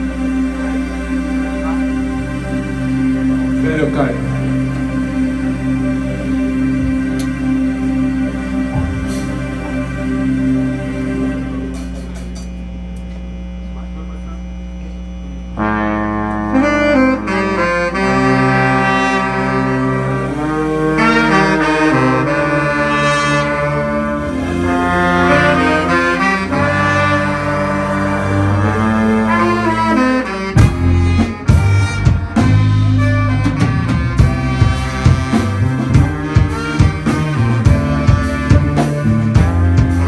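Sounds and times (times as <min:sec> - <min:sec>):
drum kit beat: 0:00.0 - 0:12.8, 0:16.6 - 0:40.0
horn section playing melody: 0:00.0 - 0:13.1, 0:15.3 - 0:40.0
bass: 0:00.0 - 0:40.0.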